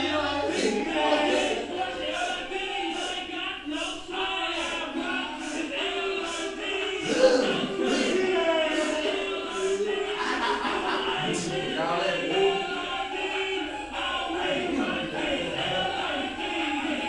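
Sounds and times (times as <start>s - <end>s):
song with singing: 0.0s - 17.0s.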